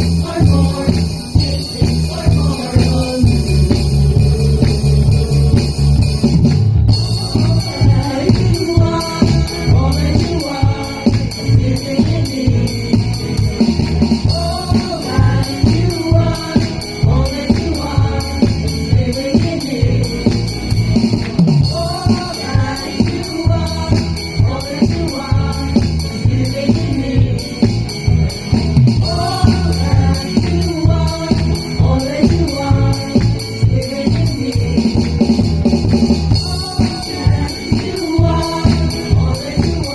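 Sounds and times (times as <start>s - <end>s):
voices singing worship song: 0.0s - 28.1s, 28.9s - 39.9s
live band playing: 0.0s - 39.9s.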